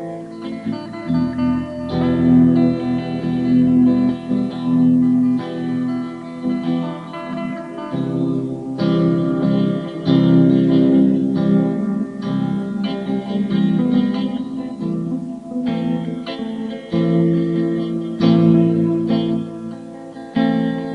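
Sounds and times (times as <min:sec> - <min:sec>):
acoustic guitar plucked and strummed: 0:00.0 - 0:20.9.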